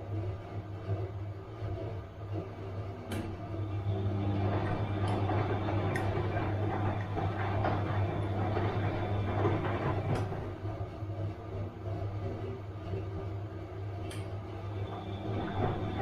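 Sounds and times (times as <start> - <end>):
washing machine churning: 0.0 - 16.0.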